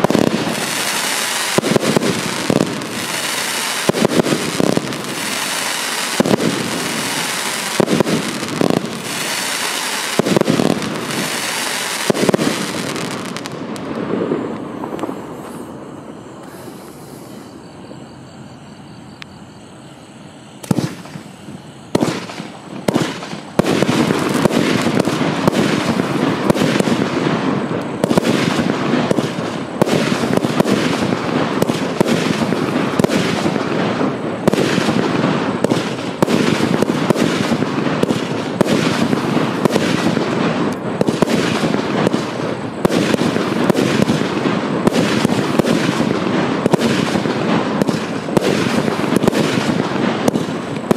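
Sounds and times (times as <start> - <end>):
fireworks shots and bursts: 0.0 - 15.8, 20.6 - 50.9.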